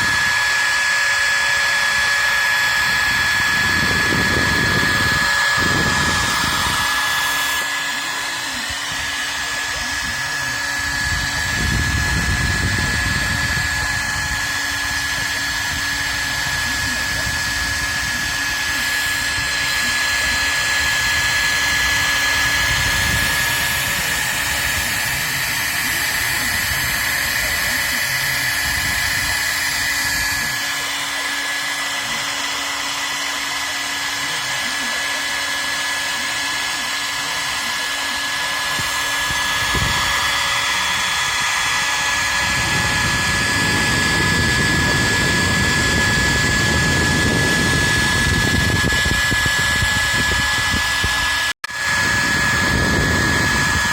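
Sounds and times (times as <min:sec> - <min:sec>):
cnc router spindle whine: 0:00.0 - 0:53.9.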